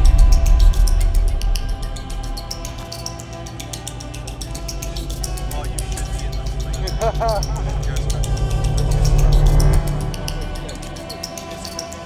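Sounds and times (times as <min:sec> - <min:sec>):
soundtrack music with fast drum beat: 0:00.0 - 0:12.0.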